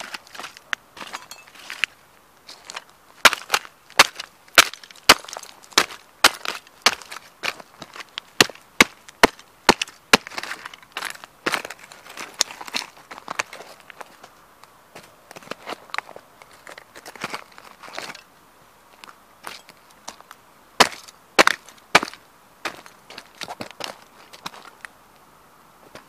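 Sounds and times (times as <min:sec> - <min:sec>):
boots stomping on gravel: 0:00.0 - 0:01.9, 0:02.5 - 0:14.3, 0:14.9 - 0:18.2, 0:19.0 - 0:24.8.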